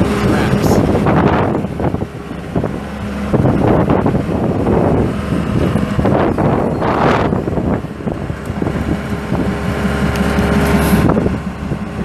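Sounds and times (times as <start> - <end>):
excavator diesel engine running: 0.0 - 12.0
wind noise on microphone: 0.0 - 12.0.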